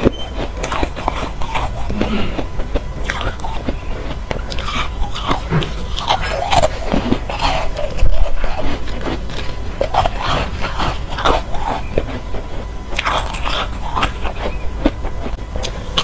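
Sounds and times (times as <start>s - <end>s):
crunchy chewing of foam ice: 0.0s - 16.0s.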